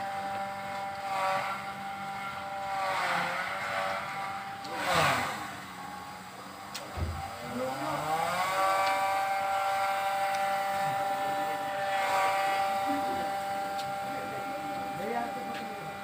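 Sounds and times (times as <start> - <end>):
motor whine: 0.0 - 16.0.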